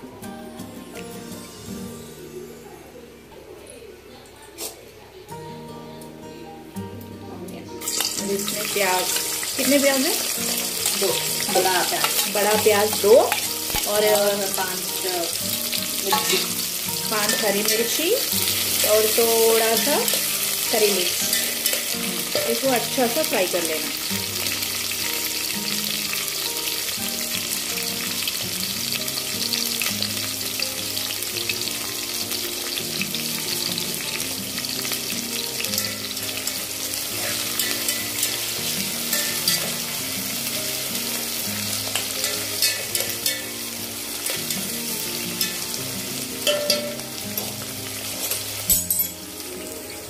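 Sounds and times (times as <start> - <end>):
soft melody: 0.0 - 50.0
onions sizzling in hot oil: 7.8 - 50.0.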